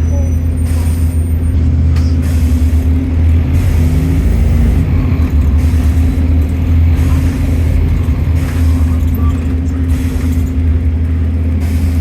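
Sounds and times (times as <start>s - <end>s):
bus engine drone from inside: 0.0s - 12.0s.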